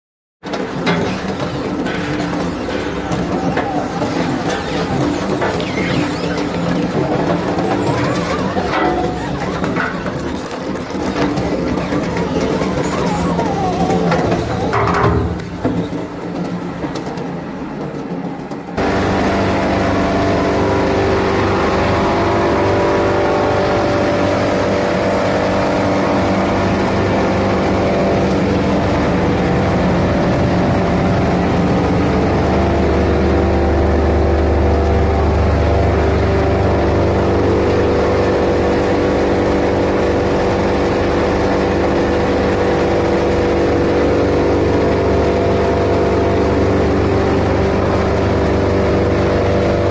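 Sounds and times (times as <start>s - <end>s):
cable granulator machine humming: 0.4s - 49.9s.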